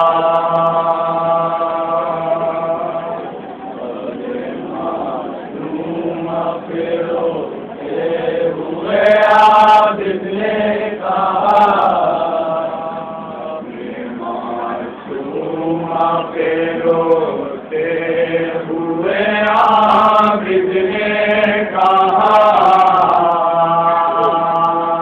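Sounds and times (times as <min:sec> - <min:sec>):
men chanting a lamentation: 0:00.0 - 0:25.0.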